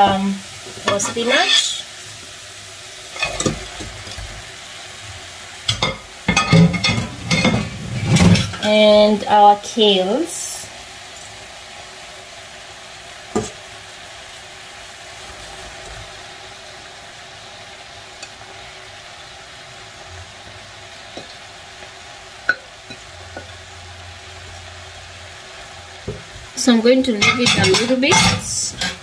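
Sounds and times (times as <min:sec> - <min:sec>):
food sizzling in a pot: 0:00.0 - 0:29.0.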